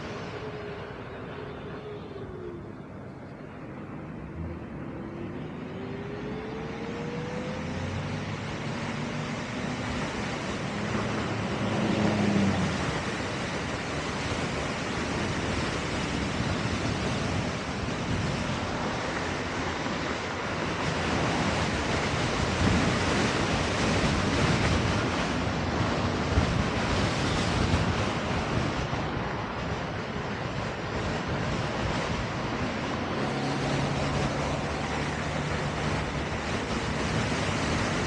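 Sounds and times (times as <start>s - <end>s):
wind rushing over microphone: 0.0s - 38.0s.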